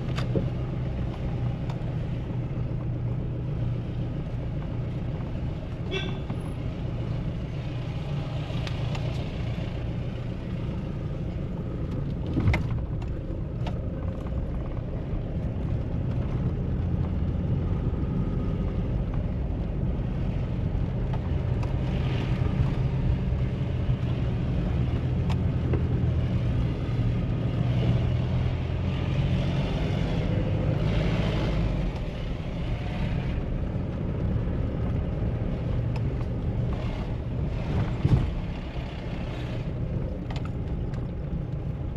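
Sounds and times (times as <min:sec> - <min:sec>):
diesel engine rumble: 0:00.0 - 0:41.9
road noise: 0:00.0 - 0:41.9.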